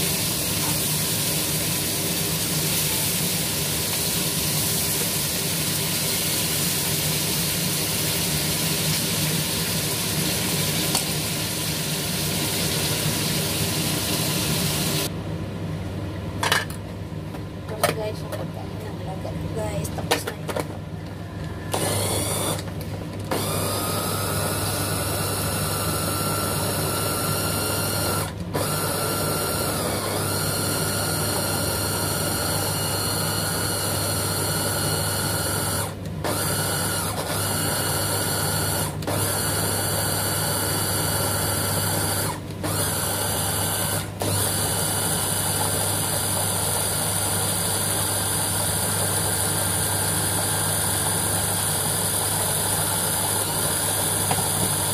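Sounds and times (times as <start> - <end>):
food chopper motor running: 0.0 - 15.1, 21.7 - 54.9.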